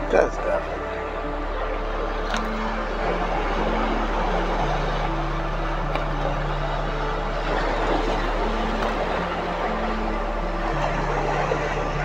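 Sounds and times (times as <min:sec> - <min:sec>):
faint background music: 0:00.0 - 0:12.0
surf: 0:00.0 - 0:12.0.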